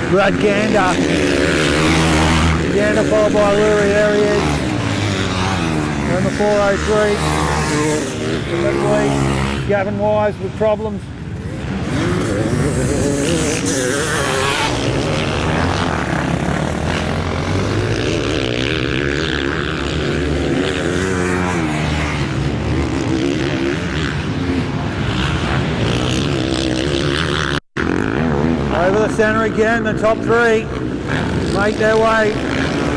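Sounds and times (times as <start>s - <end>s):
motocross bike engines revving: 0.0s - 32.9s.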